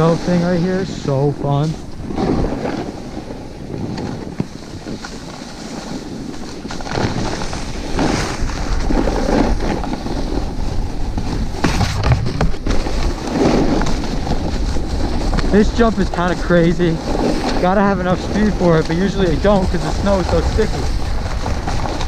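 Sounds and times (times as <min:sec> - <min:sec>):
snowboard scraping over snow: 0:00.0 - 0:22.0
wind buffeting microphone: 0:00.0 - 0:22.0.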